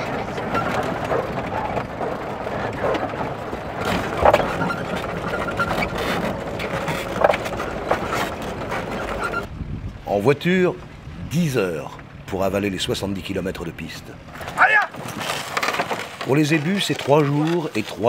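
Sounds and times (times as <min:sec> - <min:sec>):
vehicle rumbling on dirt track: 0:00.0 - 0:18.0.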